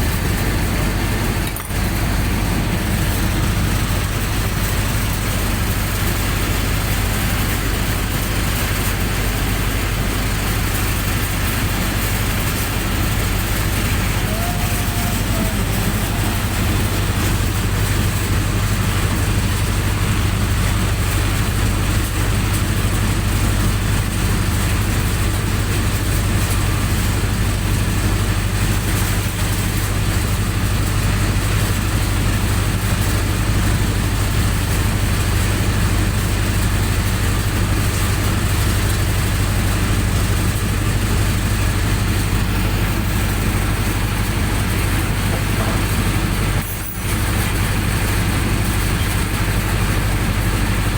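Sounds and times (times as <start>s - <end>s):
generator engine humming: 0.0s - 50.9s.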